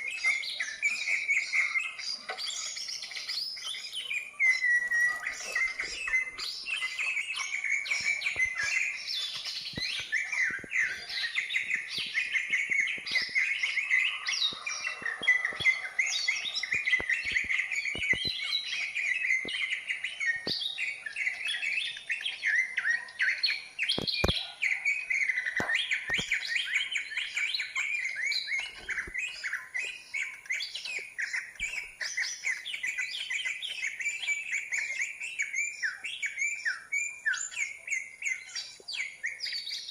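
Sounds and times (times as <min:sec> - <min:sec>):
bird song: 0:00.0 - 0:39.9.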